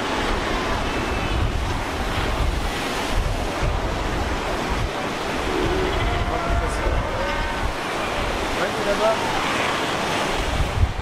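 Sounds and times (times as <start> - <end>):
ocean surf breaking over rocks: 0.0 - 11.0
wind buffeting microphone: 0.0 - 11.0.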